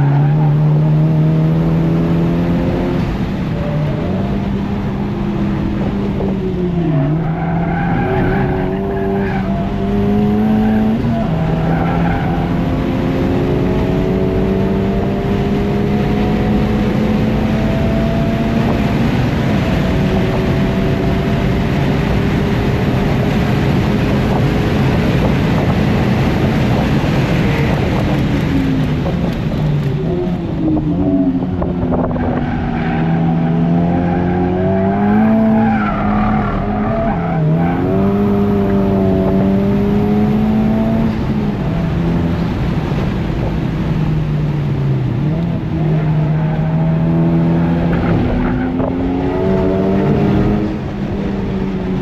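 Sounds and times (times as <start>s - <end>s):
car engine shifting gears: 0.0s - 52.0s
road and wind noise: 0.0s - 52.0s.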